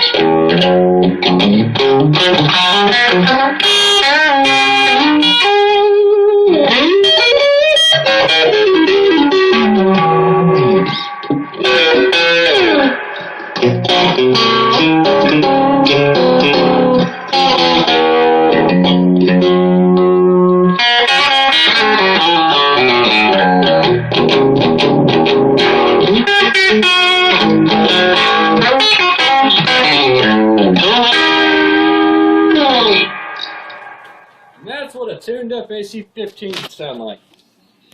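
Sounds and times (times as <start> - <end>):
electric guitar playing: 0.0 - 34.6.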